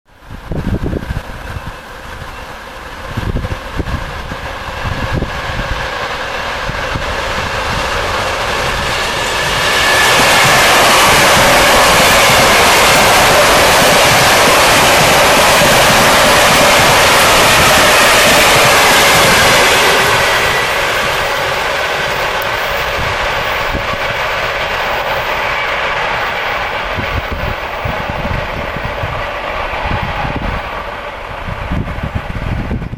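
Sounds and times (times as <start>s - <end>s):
faint train whine: 0.1s - 32.9s
wind bumps on microphone: 0.2s - 2.3s, 3.0s - 5.9s, 6.6s - 21.7s, 22.4s - 24.6s, 26.6s - 32.9s
electric train running: 0.2s - 32.9s.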